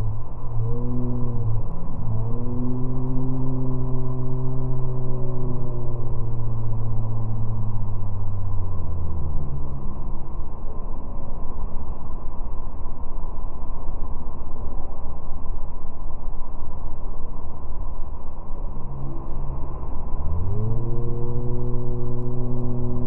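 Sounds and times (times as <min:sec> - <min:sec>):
motorboat engine drone: 0:00.0 - 0:23.0.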